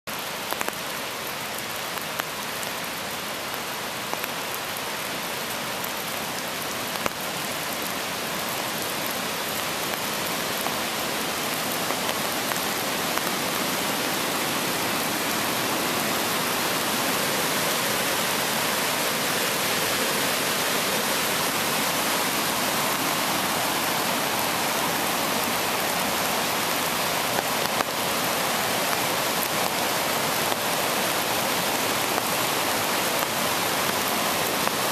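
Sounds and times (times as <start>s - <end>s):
rushing white water: 0.1s - 34.9s.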